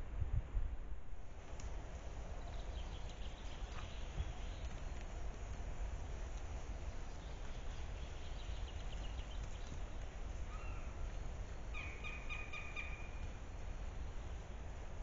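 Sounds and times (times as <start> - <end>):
hooves and twigs underfoot: 1.3 - 15.0.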